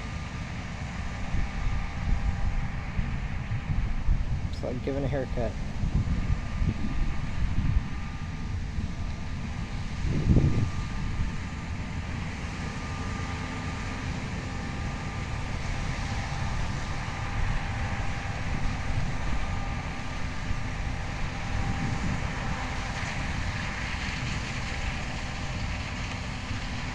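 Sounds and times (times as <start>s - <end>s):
combine harvester running: 0.0s - 26.9s.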